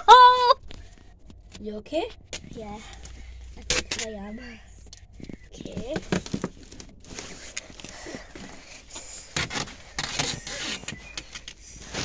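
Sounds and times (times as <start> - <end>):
scraping and rustling handling: 0.6 - 12.0.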